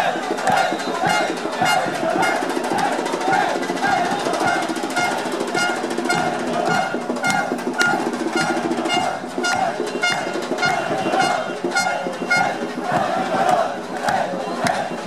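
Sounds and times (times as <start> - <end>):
crowd singing: 0.0 - 15.0
street band beating drums: 0.0 - 15.0
high ringing knock beat: 0.4 - 13.2.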